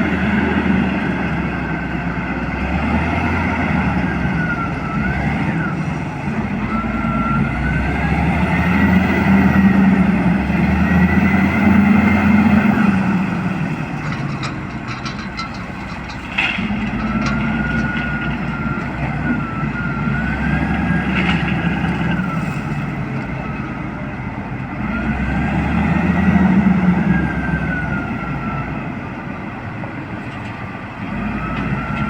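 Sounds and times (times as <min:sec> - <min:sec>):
diesel engine revving: 0:00.0 - 0:32.0.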